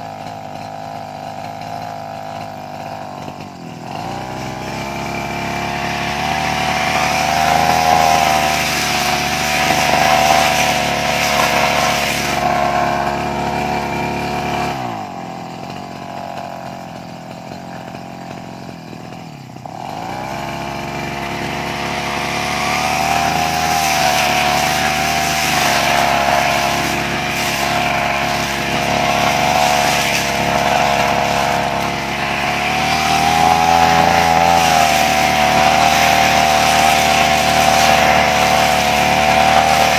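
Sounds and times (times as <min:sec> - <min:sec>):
brush cutter engine: 0:00.0 - 0:39.9.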